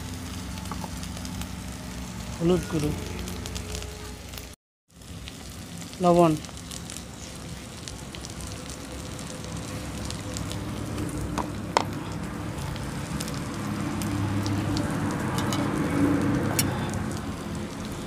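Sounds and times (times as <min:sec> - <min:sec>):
spices sizzling in oil: 0:00.0 - 0:18.0
wood fire crackling: 0:00.0 - 0:18.0.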